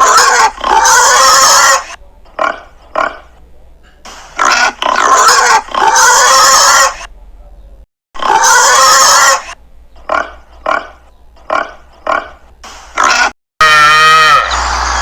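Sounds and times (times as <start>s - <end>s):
young farm animals calling: 0.0s - 3.3s, 4.4s - 7.1s, 8.2s - 15.0s.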